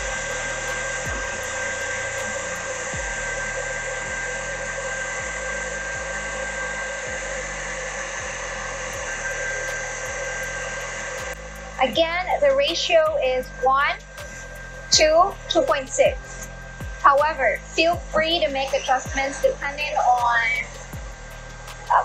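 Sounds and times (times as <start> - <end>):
stand mixer motor whirring: 0.0 - 22.0.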